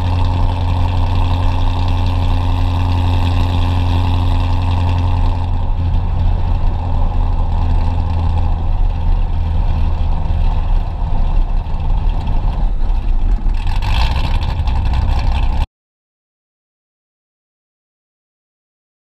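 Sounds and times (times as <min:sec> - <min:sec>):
car exhaust low drone: 0:00.0 - 0:15.7.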